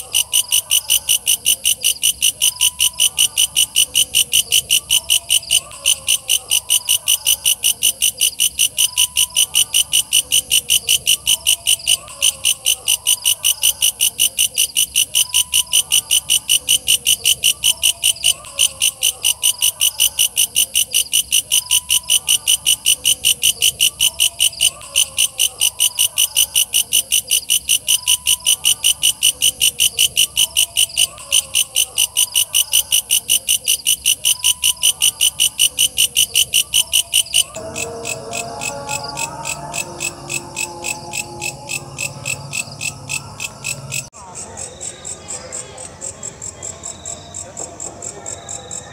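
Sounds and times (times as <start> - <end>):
bush cricket chirping pulses: 0.0 - 44.1.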